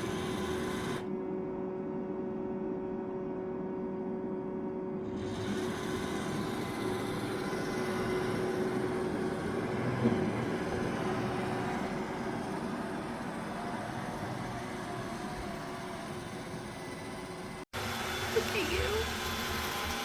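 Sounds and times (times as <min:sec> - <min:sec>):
robot vacuum whirring hum: 0:00.0 - 0:01.2, 0:05.0 - 0:20.0.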